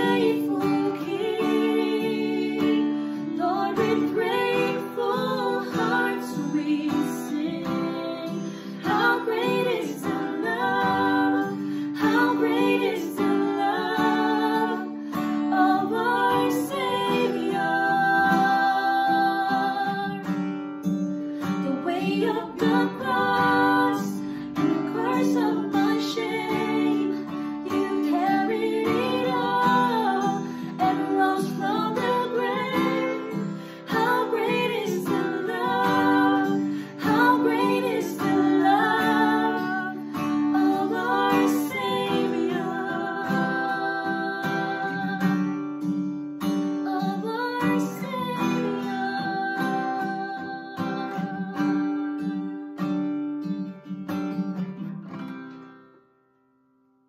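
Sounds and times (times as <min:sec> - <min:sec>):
women singing worship song: 0:00.0 - 0:20.5, 0:21.4 - 0:45.5, 0:46.8 - 0:52.6
strummed acoustic guitar: 0:00.0 - 0:56.8.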